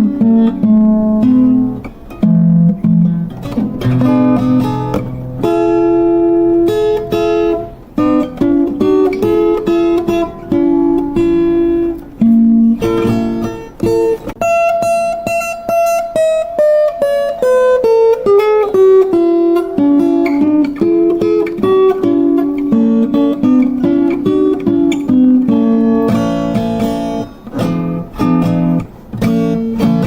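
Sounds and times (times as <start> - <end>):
acoustic guitar melody: 0.0 - 30.0.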